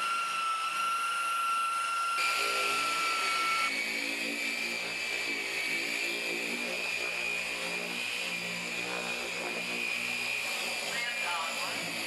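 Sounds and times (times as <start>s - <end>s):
electric polisher motor whine: 0.0s - 12.0s.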